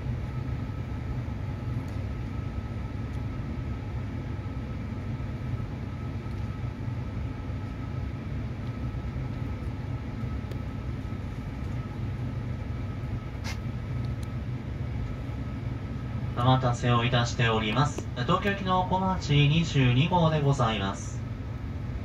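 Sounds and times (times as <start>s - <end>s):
faint steady whine: 0.0s - 22.0s
train interior hum: 0.0s - 22.0s.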